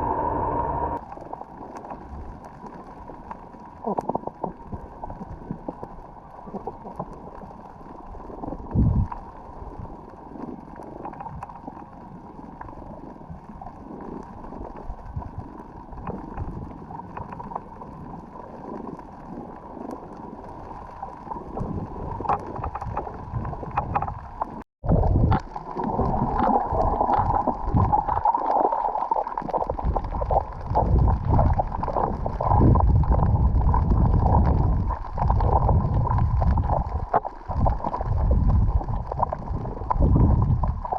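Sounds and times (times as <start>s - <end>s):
water gurgling and sloshing: 0.0s - 40.9s
water splashing: 1.0s - 40.9s.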